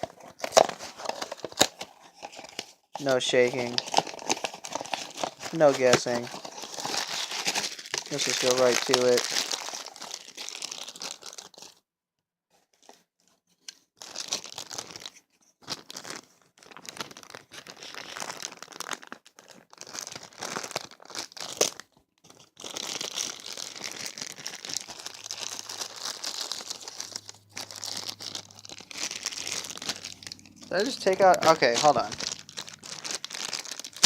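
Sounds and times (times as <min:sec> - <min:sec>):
foil bag crinkling and tearing: 0:00.0 - 0:11.8, 0:14.0 - 0:34.0.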